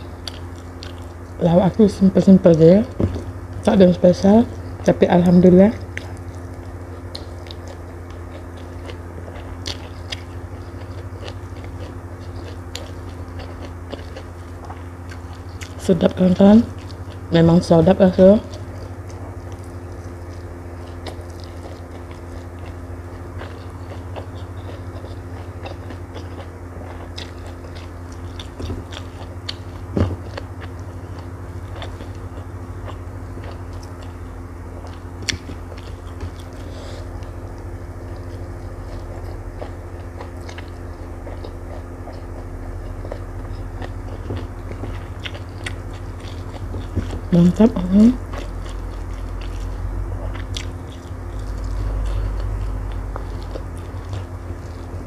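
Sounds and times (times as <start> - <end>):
chewing food: 0.0 - 55.0
steady low hum: 0.0 - 55.0.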